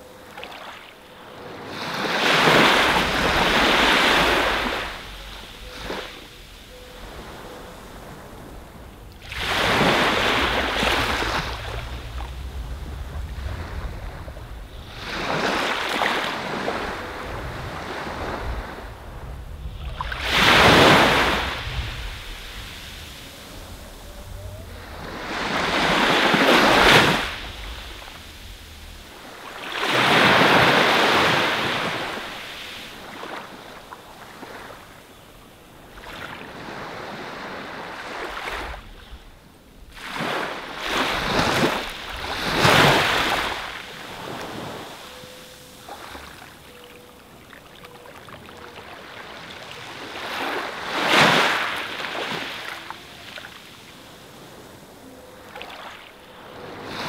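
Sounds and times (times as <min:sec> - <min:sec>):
waves washing up a beach: 0:00.0 - 0:57.0.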